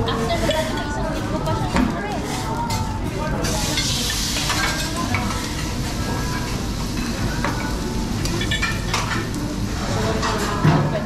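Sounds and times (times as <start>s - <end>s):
food sizzling on griddle: 0.2s - 11.0s.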